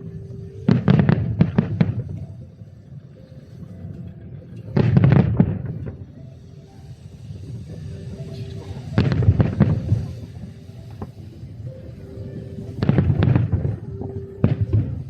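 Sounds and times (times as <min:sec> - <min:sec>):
fireworks shells bursting: 0:00.0 - 0:02.5, 0:03.1 - 0:15.0.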